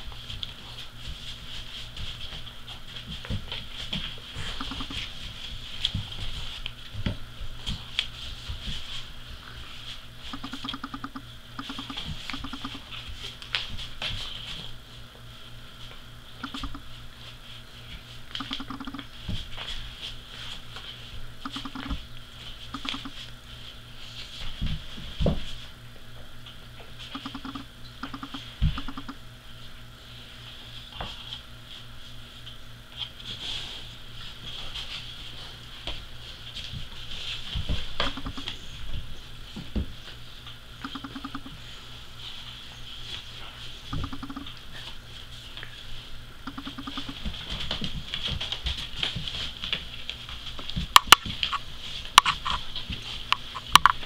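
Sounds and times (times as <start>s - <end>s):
puppies chewing and scuffling: 0.0s - 54.0s.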